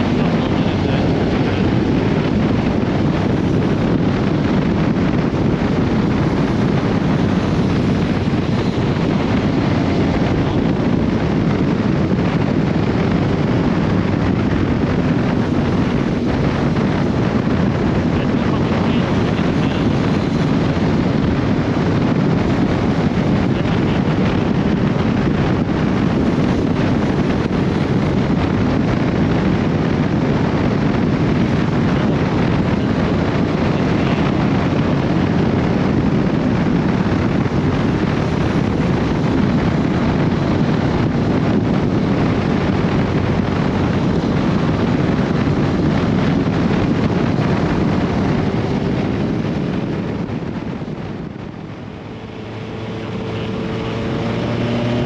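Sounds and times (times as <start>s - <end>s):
motorcycle engine drone: 0.0s - 55.0s
wind rushing over microphone: 0.0s - 55.0s.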